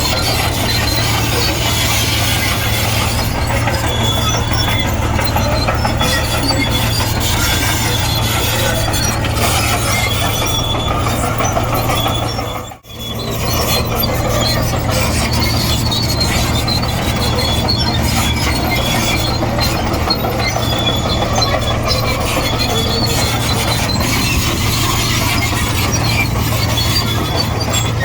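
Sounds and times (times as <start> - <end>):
diesel engine drone: 0.0 - 28.0
steel tracks squealing and rattling: 0.0 - 28.0.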